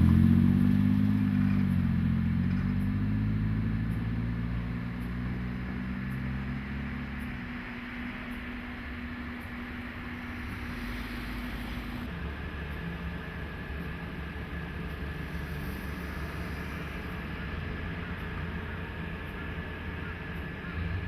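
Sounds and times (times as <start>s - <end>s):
locomotive engine running: 0.0s - 21.0s.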